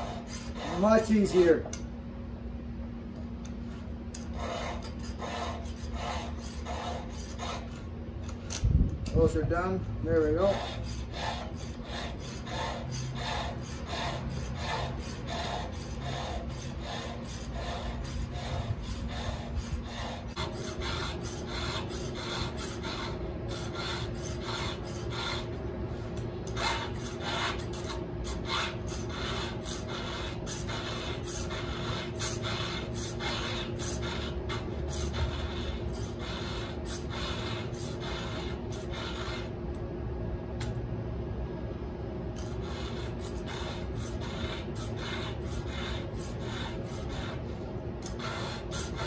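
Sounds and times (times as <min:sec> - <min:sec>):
file rasping on chainsaw chain: 0:00.0 - 0:01.6, 0:04.2 - 0:07.8, 0:10.1 - 0:25.6, 0:26.5 - 0:39.5, 0:42.4 - 0:49.0.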